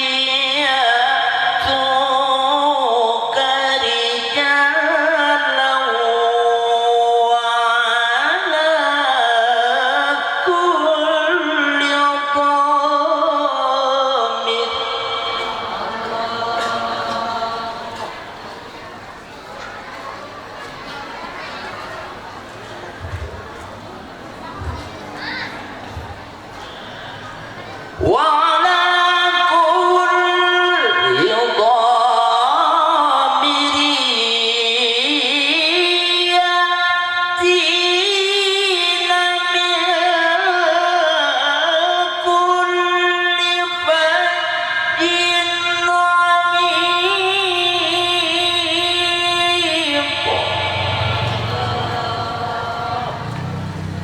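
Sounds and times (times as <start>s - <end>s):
man reciting melodically: 0.0s - 18.6s, 26.7s - 54.0s.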